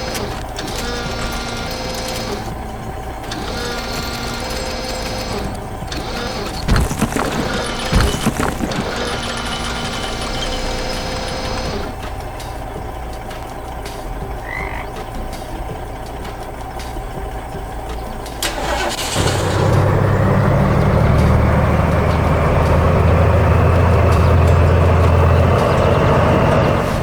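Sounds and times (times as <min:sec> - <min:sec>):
heavy engine starting and running: 0:00.0 - 0:27.0.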